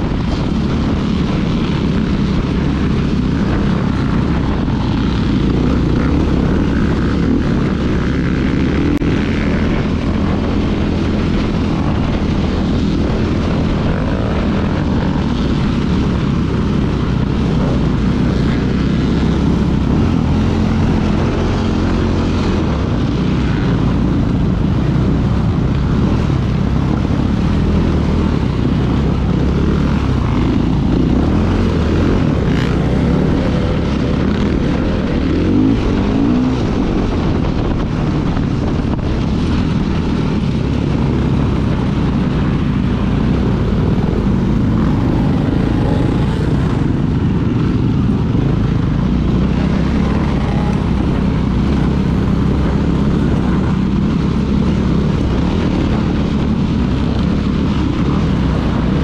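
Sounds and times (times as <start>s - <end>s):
ground noise: 0.0s - 59.0s
wind noise: 0.0s - 59.0s.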